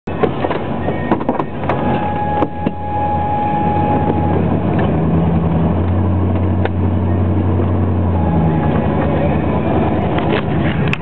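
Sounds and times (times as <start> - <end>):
pickup engine running: 0.1 - 11.0.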